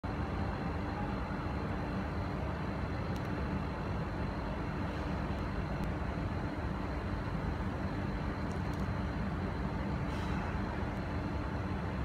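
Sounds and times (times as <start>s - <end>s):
faint hum: 0.0s - 12.0s
low rumbling background noise: 0.0s - 12.0s.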